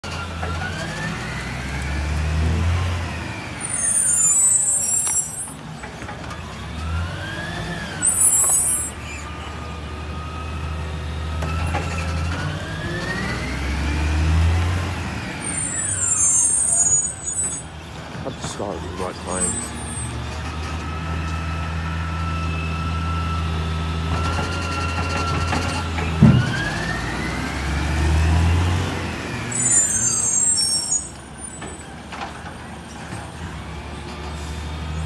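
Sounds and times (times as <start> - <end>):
hydraulic whine: 0.0 - 31.9
diesel truck rumble: 0.0 - 35.0.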